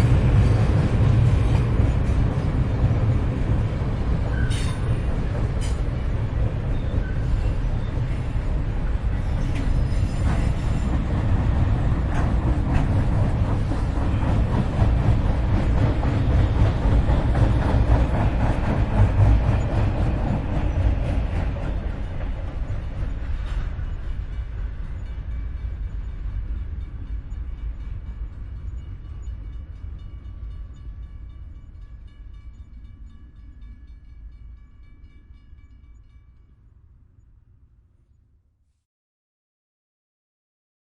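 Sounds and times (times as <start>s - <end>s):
train rumbling: 0.0s - 37.2s.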